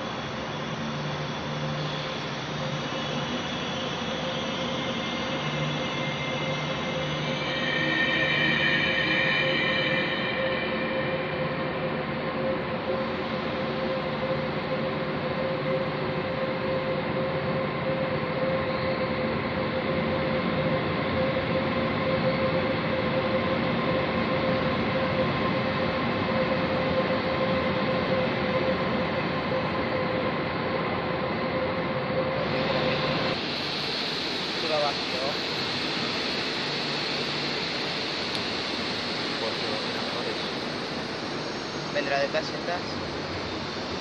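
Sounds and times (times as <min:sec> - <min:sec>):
droning tone: 0:00.0 - 0:44.0.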